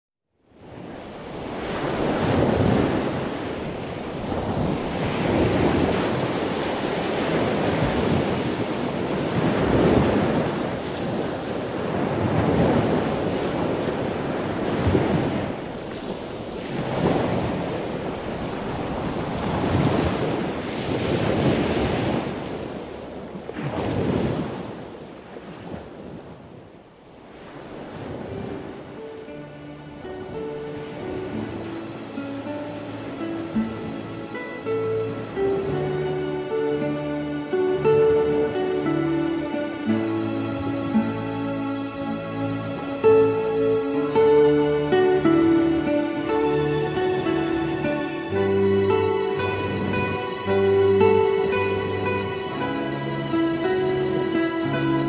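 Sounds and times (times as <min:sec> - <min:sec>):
surf breaking on a beach: 0:00.5 - 0:55.0
wind rumbling on microphone: 0:00.5 - 0:55.0.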